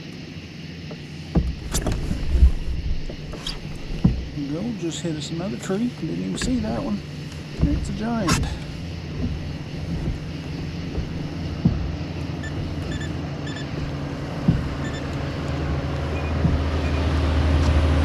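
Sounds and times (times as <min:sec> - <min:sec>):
motorboat engine drone: 0:00.0 - 0:18.0
short knocks: 0:00.9 - 0:18.0.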